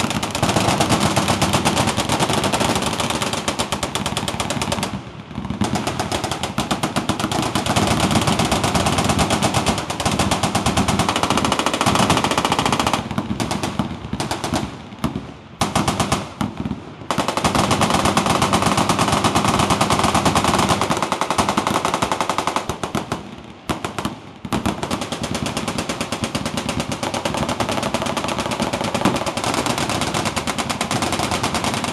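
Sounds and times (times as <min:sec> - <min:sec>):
machine-gun fire: 0:00.0 - 0:14.7, 0:15.6 - 0:31.9.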